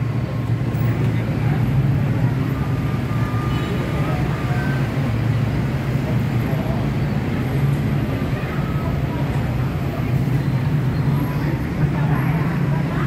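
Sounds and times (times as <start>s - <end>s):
dense city traffic rumble: 0.0s - 13.0s.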